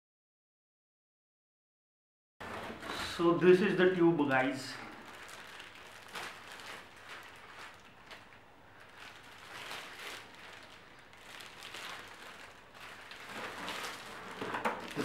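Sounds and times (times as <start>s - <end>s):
plastic wrapping rustling: 2.4s - 15.0s.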